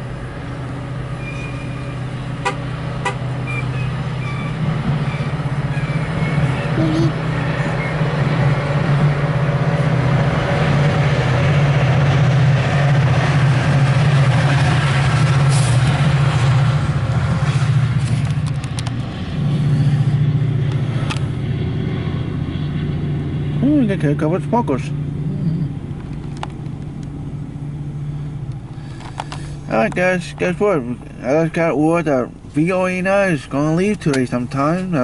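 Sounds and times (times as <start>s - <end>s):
diesel locomotive droning: 0.0s - 35.0s
rail noise: 0.0s - 35.0s.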